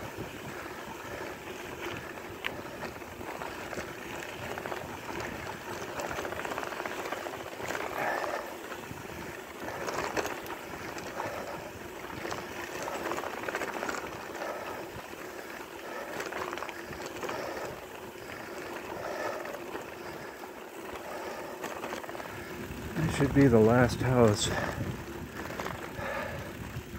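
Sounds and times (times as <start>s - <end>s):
bicycle tyres on gravel: 0.0s - 26.9s.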